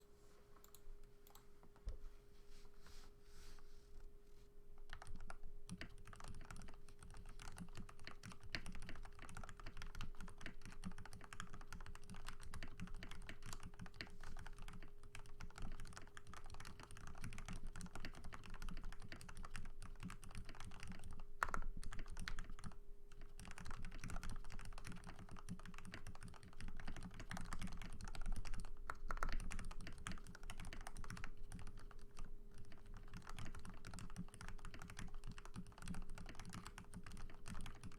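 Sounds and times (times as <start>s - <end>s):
mechanical keyboard typing: 4.9s - 37.9s.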